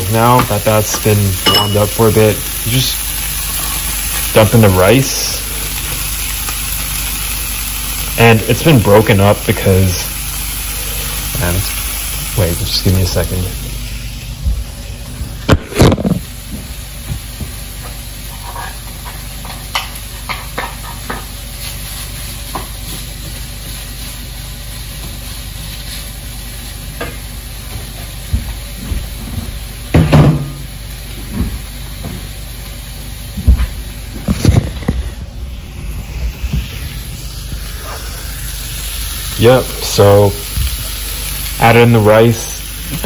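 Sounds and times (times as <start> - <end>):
food sizzling in a pan: 0.0 - 14.9, 15.9 - 43.0.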